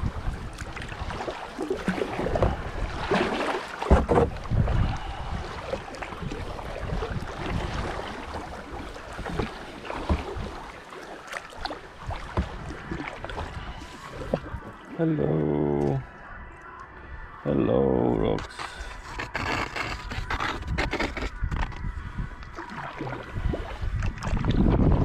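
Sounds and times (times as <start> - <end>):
paddle strokes splashing: 0.0 - 15.0, 18.4 - 24.7
water sloshing against kayak: 0.0 - 25.0.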